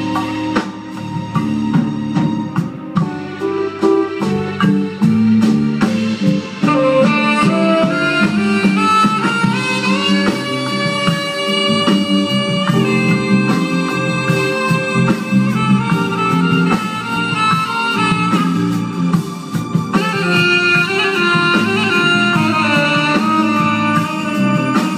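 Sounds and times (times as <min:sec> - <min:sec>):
live jazz band playing: 0:00.0 - 0:24.9.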